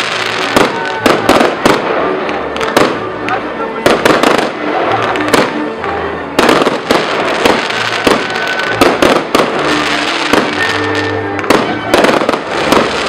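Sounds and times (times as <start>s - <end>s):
fireworks bursts and bangs: 0.0s - 5.7s, 6.4s - 13.0s
music playing: 0.0s - 13.0s.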